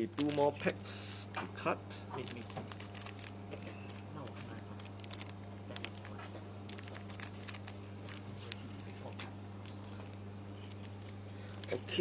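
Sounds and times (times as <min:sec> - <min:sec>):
foil pack crinkling: 0:00.0 - 0:12.0
steady low hum: 0:00.0 - 0:12.0.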